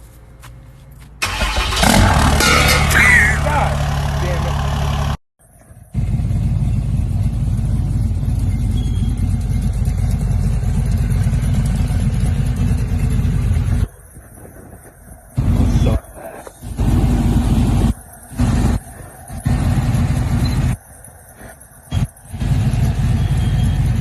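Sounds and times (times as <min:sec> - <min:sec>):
truck engine running: 0:01.2 - 0:24.0.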